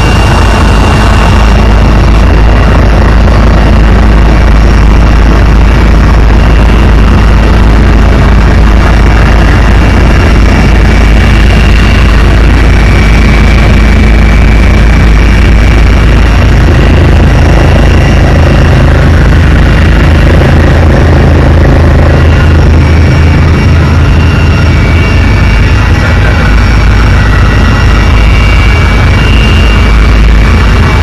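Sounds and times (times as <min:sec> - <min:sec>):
faint high whines: 0:00.0 - 0:31.0
helicopter engine and rotor drone: 0:00.0 - 0:31.0.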